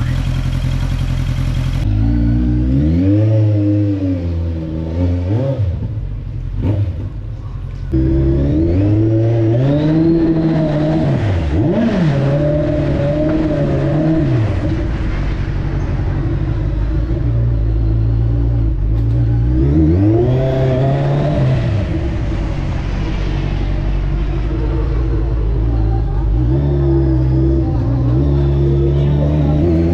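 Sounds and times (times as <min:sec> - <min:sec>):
motorcycle engine revving: 0:00.0 - 0:07.2, 0:07.9 - 0:29.9.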